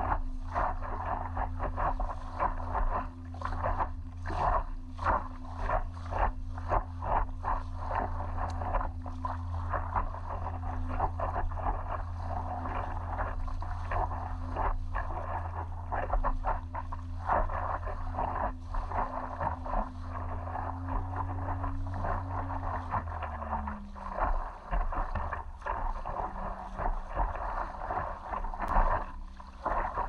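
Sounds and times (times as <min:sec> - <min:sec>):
steady low rumble: 0:00.0 - 0:30.0
water splashing around paddleboard: 0:00.0 - 0:30.0.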